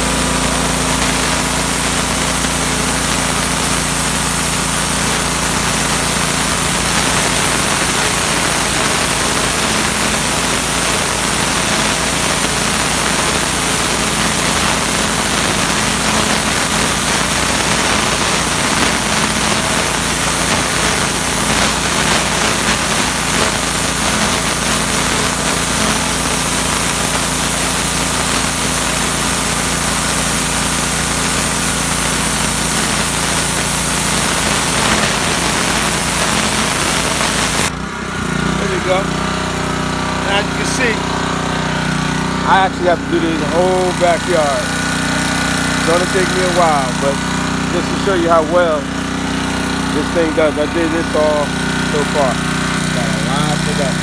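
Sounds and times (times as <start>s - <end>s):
high-pressure water jet hissing: 0.0s - 54.0s
pressure washer engine humming: 0.0s - 54.0s.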